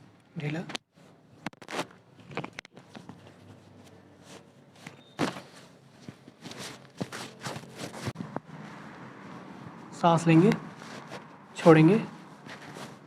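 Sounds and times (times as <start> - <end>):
rustling: 1.0 - 13.0.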